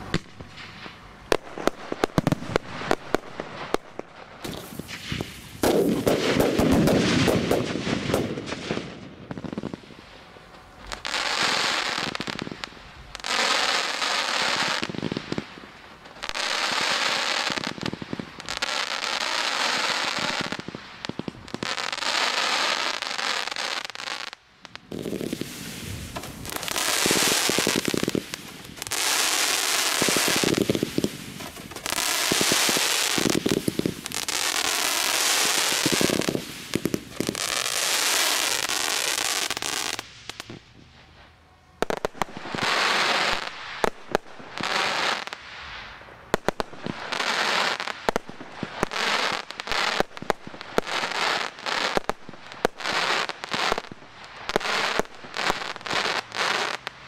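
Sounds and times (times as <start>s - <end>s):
fireworks bangs and crackles: 0.0s - 57.0s
fireworks rushing bursts: 0.0s - 57.0s.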